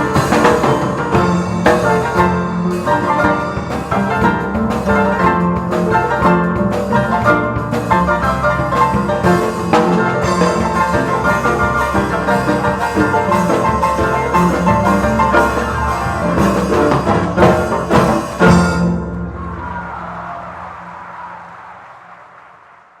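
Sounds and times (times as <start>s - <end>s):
harps playing plucked notes: 0.0s - 19.6s.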